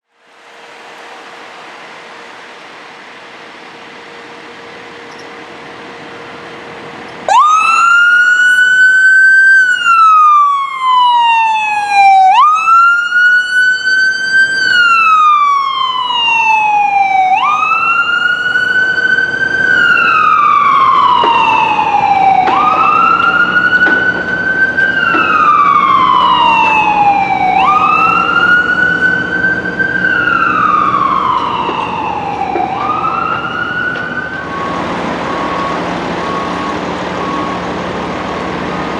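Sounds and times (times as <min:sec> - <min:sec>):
emergency vehicle siren wailing: 0:04.2 - 0:38.9.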